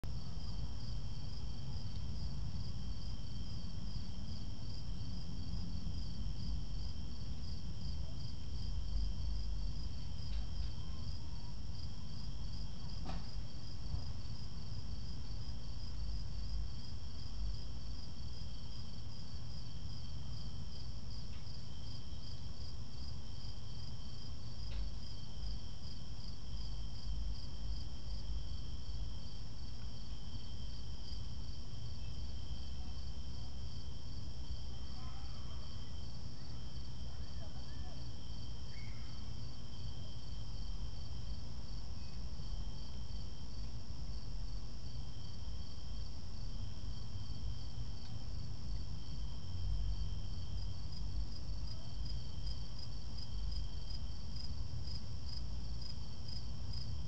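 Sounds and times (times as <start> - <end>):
crickets chirping: 0.1 - 57.0
insect trill: 0.2 - 57.0.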